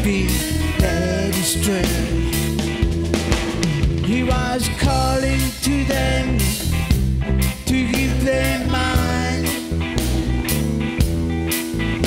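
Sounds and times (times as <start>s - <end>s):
bass guitar: 0.0s - 12.0s
drums: 0.0s - 12.0s
electric guitar lead: 0.0s - 12.0s.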